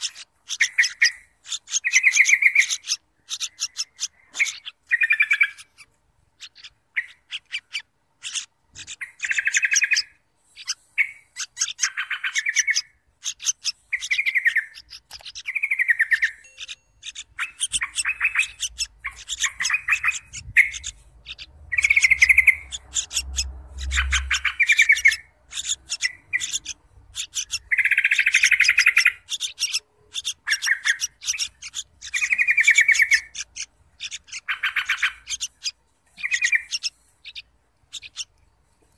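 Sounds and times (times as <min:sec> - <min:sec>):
nestlings buzzy chirping: 0:00.0 - 0:38.9.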